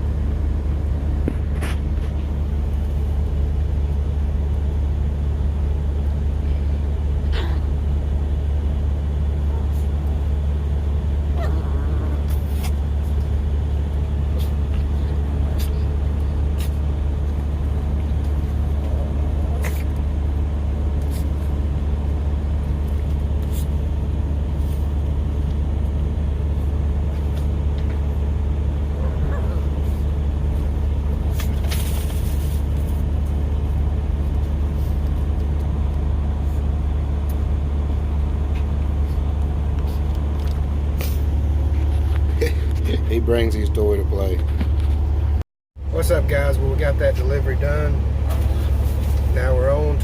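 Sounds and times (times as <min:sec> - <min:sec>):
diesel truck engine droning: 0:00.0 - 0:50.0.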